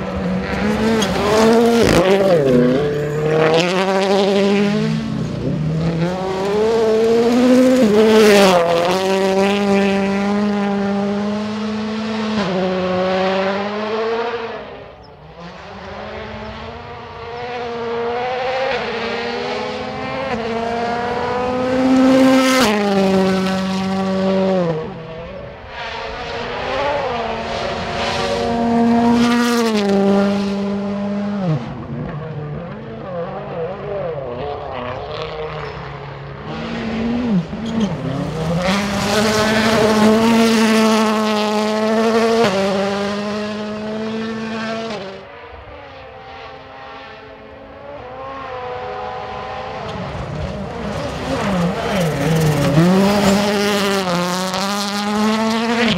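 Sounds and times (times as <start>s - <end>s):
rally car engine revving hard: 0.0s - 55.9s.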